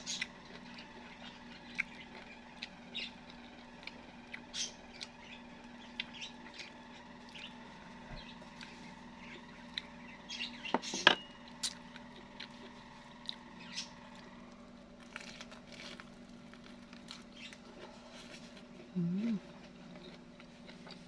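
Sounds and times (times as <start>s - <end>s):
chewing fried snack: 0.0s - 7.7s, 8.4s - 10.0s, 11.4s - 21.0s
faint hum: 0.0s - 21.0s.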